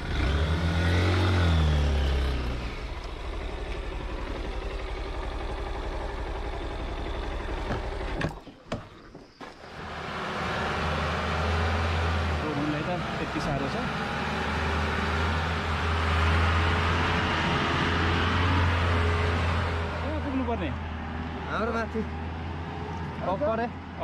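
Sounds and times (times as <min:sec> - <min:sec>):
motorcycle engine revving: 0:00.0 - 0:08.4, 0:09.6 - 0:23.4.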